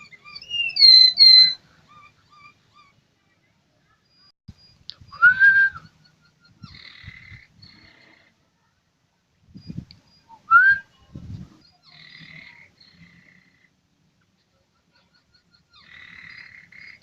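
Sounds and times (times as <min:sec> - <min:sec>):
canary singing: 0:00.0 - 0:03.0, 0:03.9 - 0:08.4, 0:09.5 - 0:13.8, 0:14.4 - 0:17.0.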